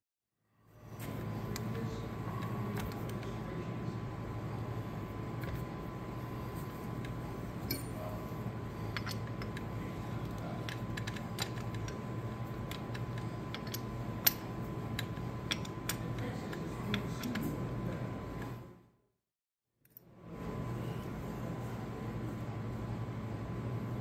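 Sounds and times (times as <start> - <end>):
steady low hum: 0.6 - 19.0, 19.9 - 24.0.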